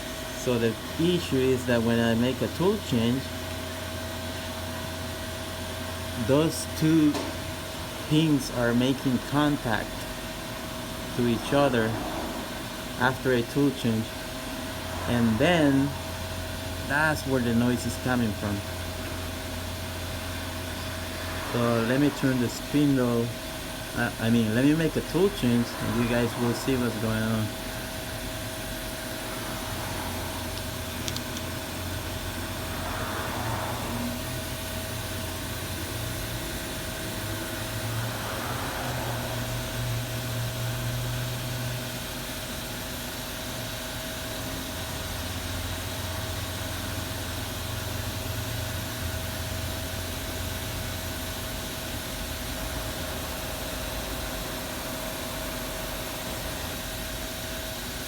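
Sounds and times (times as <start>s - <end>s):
milling machine hum and whine: 0.0s - 58.0s.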